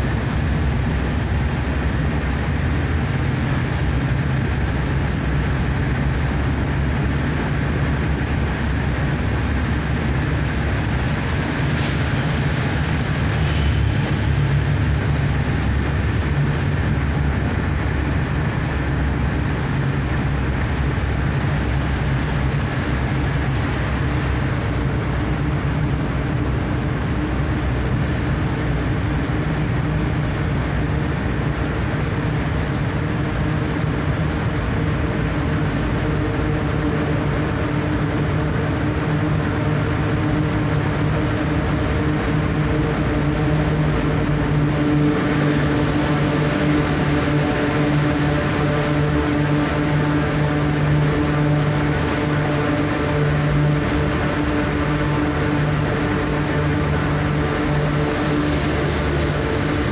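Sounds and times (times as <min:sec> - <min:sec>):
road noise inside a car: 0:00.0 - 0:59.9
vehicle engine drone: 0:00.0 - 0:59.9.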